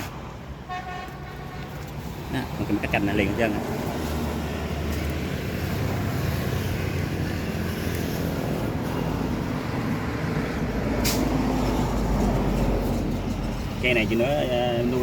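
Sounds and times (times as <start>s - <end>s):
outdoor noise: 0.0s - 15.0s
vehicle engine rumble: 0.0s - 15.0s.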